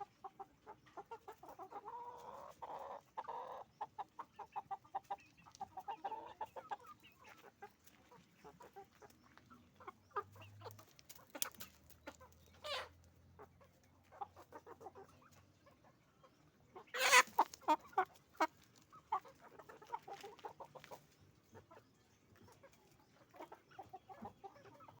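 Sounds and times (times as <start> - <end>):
chickens clucking and squawking: 0.0 - 25.0.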